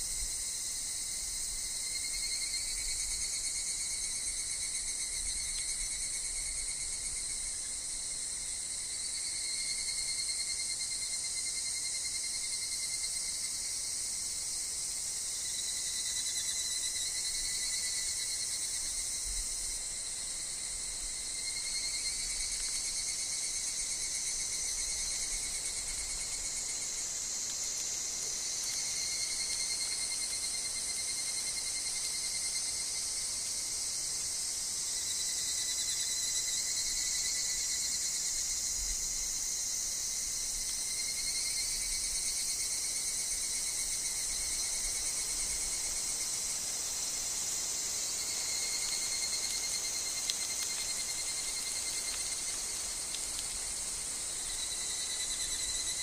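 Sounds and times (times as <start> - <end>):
cicadas shrilling: 0.0 - 56.0
steady insect tones: 0.0 - 56.0.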